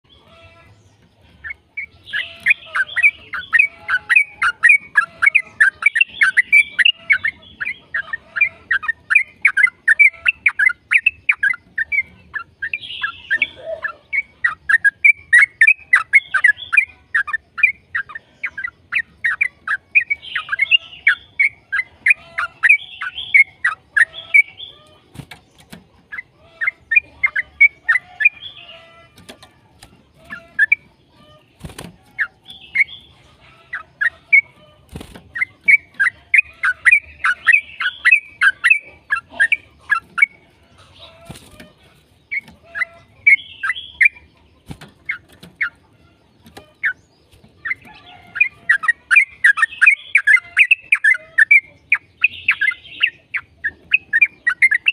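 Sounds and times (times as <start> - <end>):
bird chattering song: 0.0 - 54.9.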